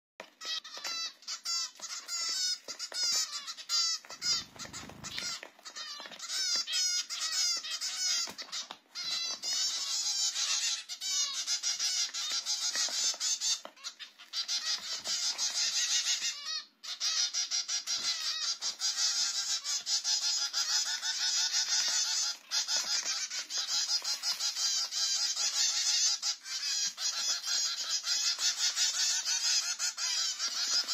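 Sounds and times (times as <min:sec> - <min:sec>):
young birds begging chirps: 0:00.2 - 0:30.9.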